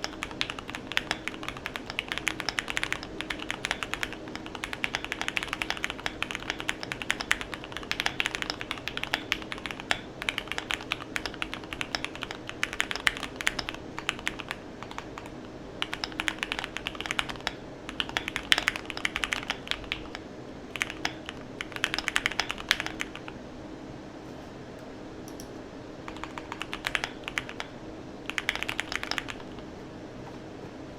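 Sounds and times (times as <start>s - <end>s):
mechanical keyboard typing: 0.0s - 23.4s, 26.1s - 29.8s.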